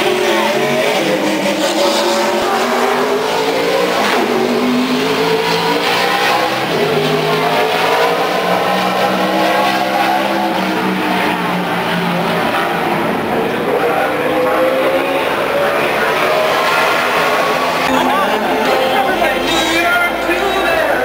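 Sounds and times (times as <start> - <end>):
race car engine at speed: 0.0 - 21.0.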